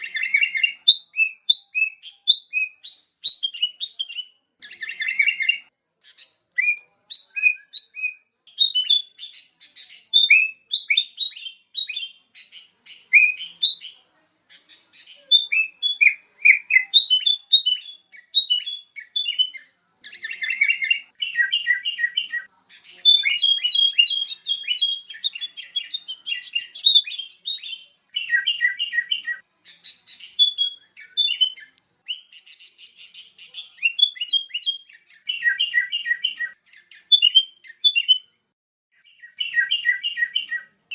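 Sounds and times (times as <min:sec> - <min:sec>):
bird singing liquid chirps: 0:00.0 - 0:40.9.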